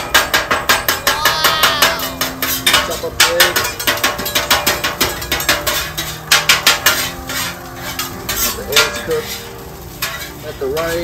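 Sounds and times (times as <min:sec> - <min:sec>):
metal spatula tapping on griddle: 0:00.0 - 0:09.4, 0:10.0 - 0:11.0.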